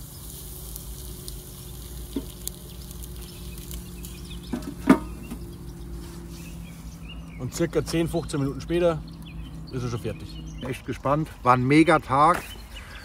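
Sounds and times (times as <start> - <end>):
fish sizzling on grill: 0.0 - 10.4.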